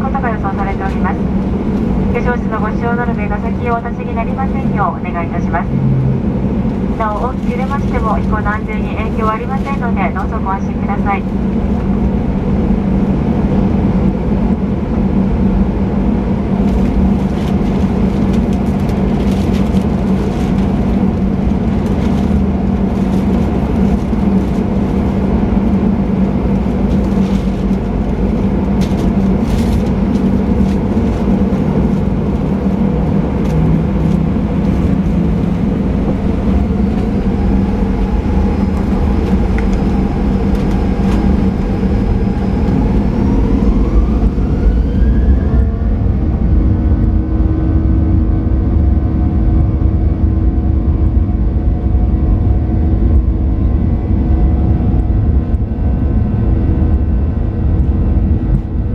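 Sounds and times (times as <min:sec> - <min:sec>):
jet engines humming in cabin: 0:00.0 - 0:58.9.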